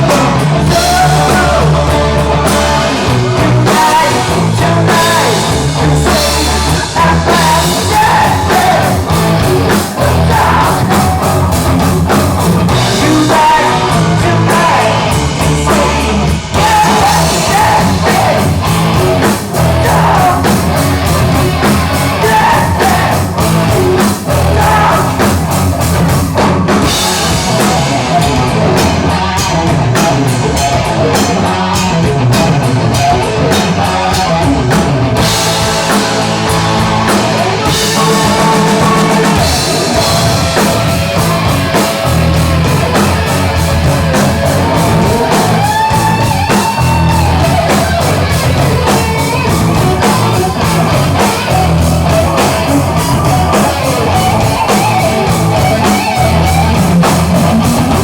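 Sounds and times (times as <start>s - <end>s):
bass guitar: 0.0s - 58.0s
distorted electric guitar: 0.0s - 58.0s
drum kit: 0.0s - 58.0s.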